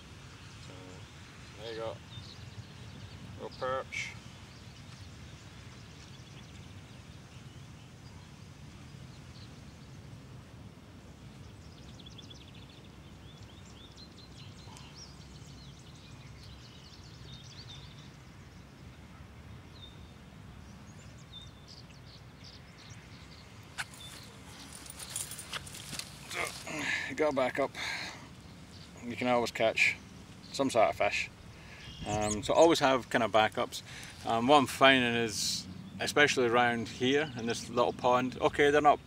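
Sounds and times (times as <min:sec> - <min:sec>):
small birds chirping: 0:00.0 - 0:10.2, 0:11.1 - 0:39.0.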